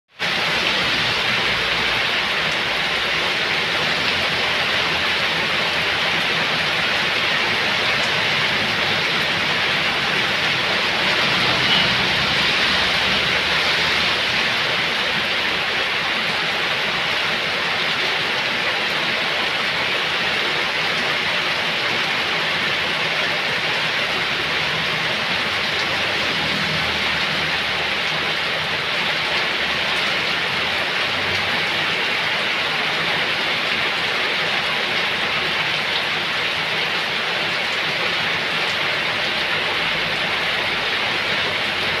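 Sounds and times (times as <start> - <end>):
heavy rain on pavement: 0.1 - 42.0.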